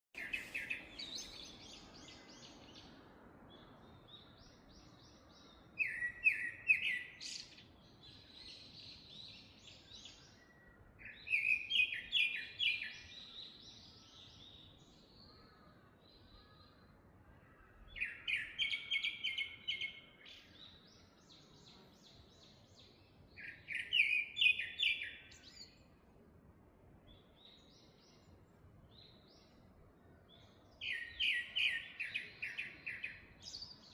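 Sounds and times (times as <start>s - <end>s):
bird singing short song: 0.2s - 26.0s, 27.0s - 33.9s.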